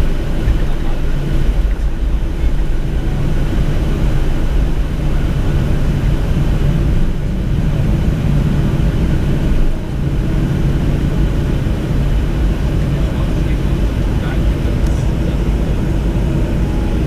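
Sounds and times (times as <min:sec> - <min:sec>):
airplane cabin drone: 0:00.0 - 0:17.0
constant low hum: 0:00.0 - 0:17.0.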